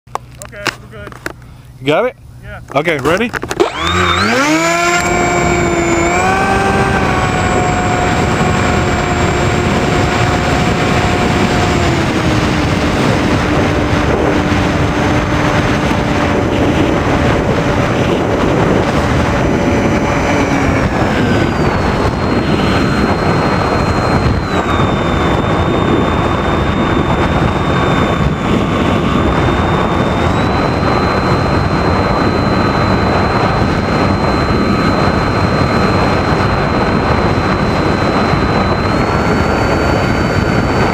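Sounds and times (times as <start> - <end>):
model airplane motor droning: 2.4 - 40.9.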